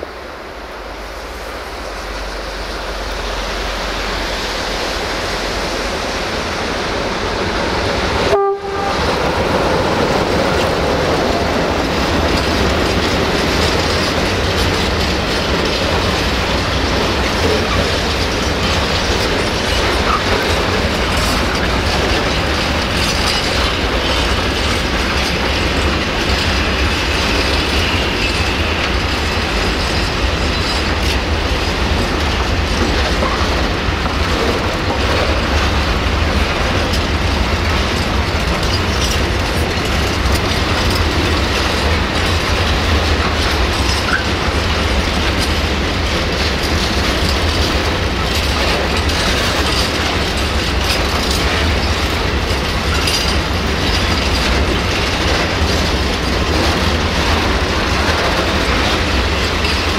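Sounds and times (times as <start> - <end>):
diesel locomotive passing: 0.0 - 59.9
train wheels clicking over rail joints: 1.0 - 59.9.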